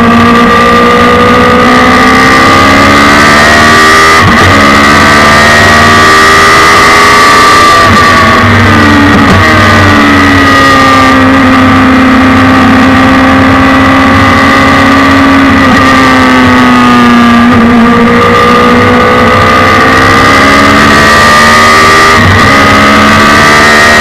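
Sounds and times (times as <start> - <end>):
motorcycle engine at speed: 0.0 - 24.0.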